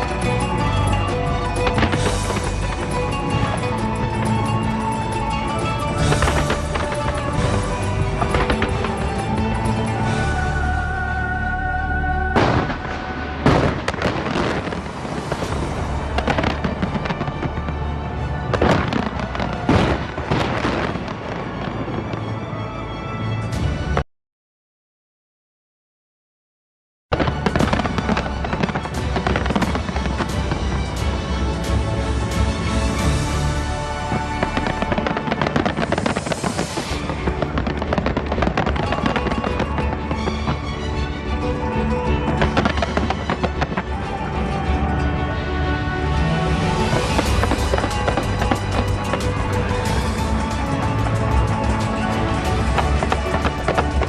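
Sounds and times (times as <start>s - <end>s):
fireworks bangs and crackling: 0.0s - 10.8s, 12.3s - 22.6s, 27.1s - 54.0s
music: 0.0s - 24.1s, 27.1s - 54.0s.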